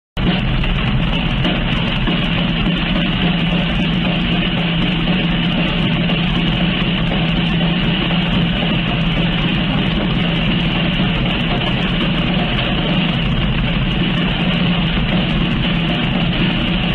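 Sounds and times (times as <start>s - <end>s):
engine running loudly: 0.2s - 16.9s.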